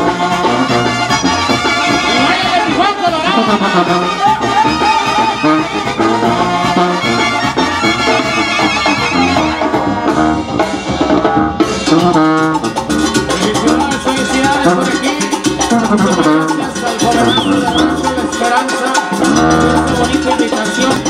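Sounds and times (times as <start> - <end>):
latin brass band music: 0.0 - 21.0.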